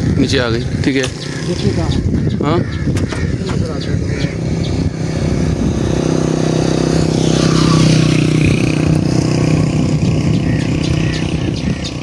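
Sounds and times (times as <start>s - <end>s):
vehicle engine passing: 0.2s - 12.0s.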